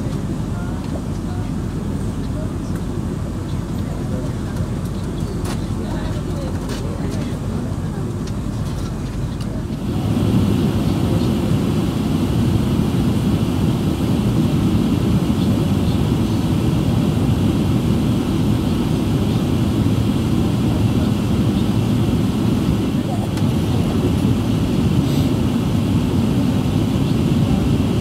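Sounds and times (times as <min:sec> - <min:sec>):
airliner engine rumble in cabin: 0:00.0 - 0:28.0.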